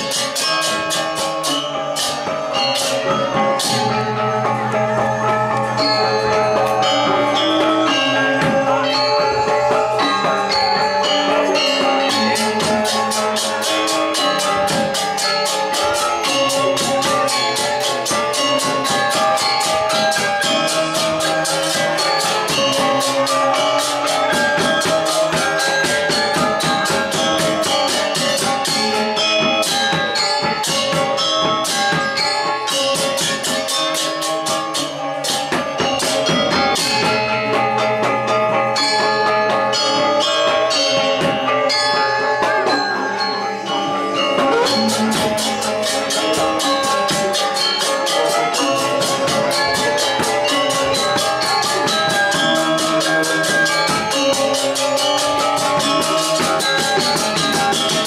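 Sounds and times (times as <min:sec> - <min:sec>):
fast cymbal clashes: 0:00.0 - 0:58.0
metallophones and gongs ringing: 0:00.0 - 0:58.0.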